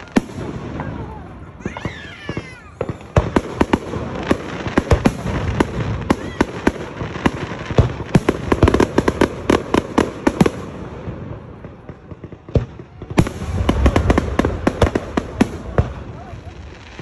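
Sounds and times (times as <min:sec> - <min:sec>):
fireworks crackles: 0:00.0 - 0:17.0
fireworks pops and bangs: 0:00.0 - 0:17.0.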